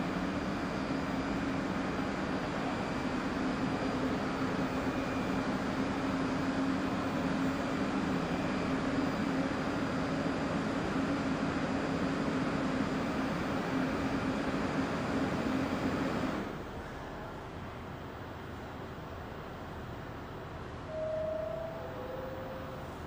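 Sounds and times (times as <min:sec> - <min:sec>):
subway train humming: 0:00.0 - 0:23.0.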